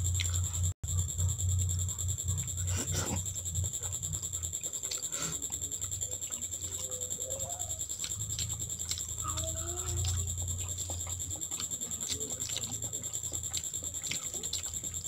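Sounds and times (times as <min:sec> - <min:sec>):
steady low hum: 0:00.0 - 0:15.0
fingers squelching food: 0:01.8 - 0:15.0.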